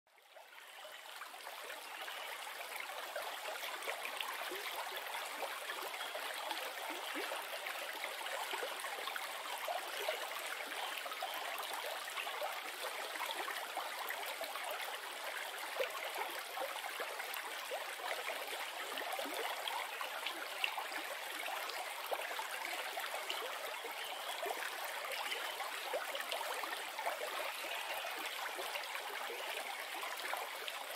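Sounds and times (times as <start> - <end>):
river water flowing: 0.2 - 30.9.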